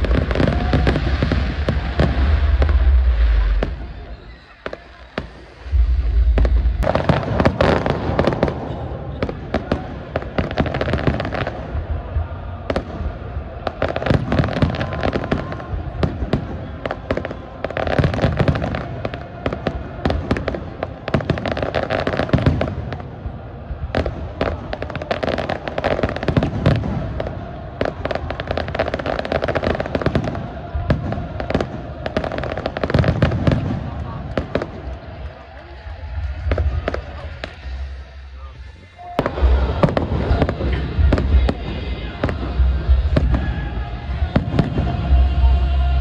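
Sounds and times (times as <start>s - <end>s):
deep firework bangs: 0.0s - 35.5s, 39.2s - 45.5s
fireworks crackling and popping: 0.0s - 46.0s.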